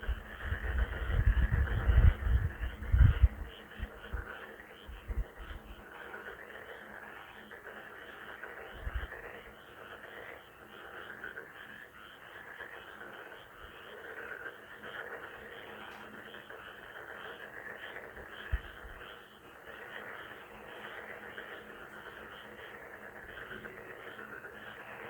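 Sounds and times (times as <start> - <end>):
frogs croaking: 0.0 - 25.0.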